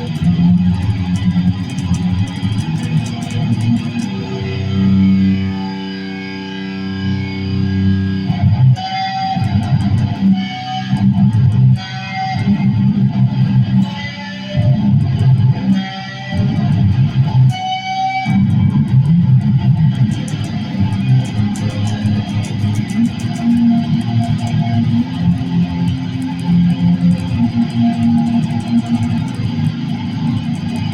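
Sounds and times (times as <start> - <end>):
electric guitar strumming: 0.0 - 30.9.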